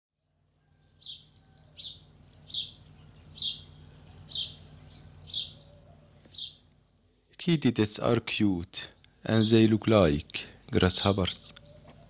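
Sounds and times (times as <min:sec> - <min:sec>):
faint low hum: 0:00.2 - 0:12.0.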